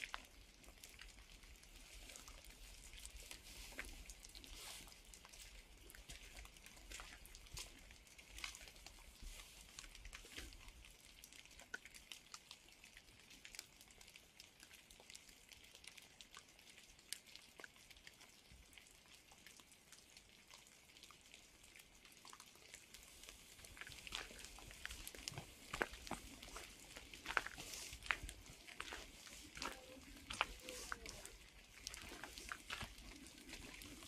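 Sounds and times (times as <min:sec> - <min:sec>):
raindrops pattering: 0:00.0 - 0:34.0.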